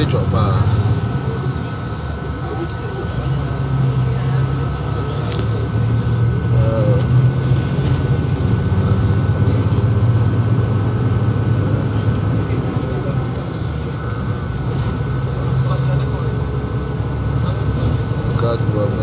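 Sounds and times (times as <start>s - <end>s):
bus engine drone: 0.0s - 19.0s
road noise: 0.0s - 19.0s
thin steady whine: 0.0s - 19.0s.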